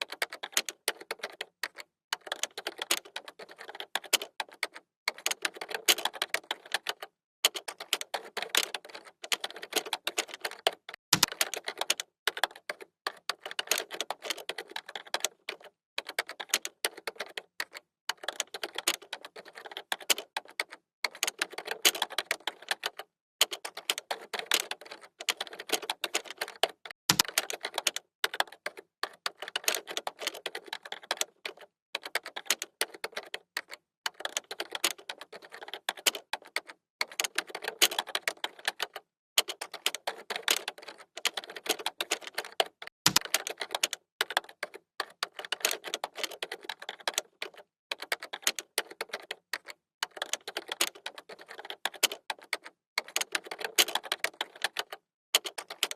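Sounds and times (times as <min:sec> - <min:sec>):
typing on computer keyboard: 0:00.0 - 0:55.9.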